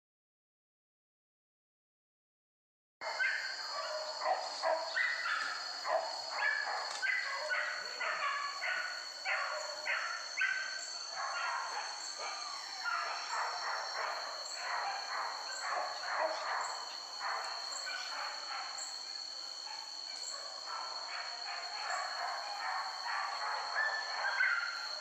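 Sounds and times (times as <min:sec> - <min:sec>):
dogs barking and yelping: 0:03.0 - 0:25.0.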